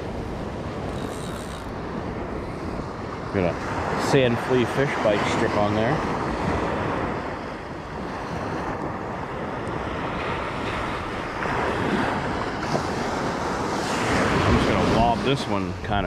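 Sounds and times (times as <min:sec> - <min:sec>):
ocean surf breaking: 0:00.0 - 0:16.0
wind on microphone: 0:00.0 - 0:16.0.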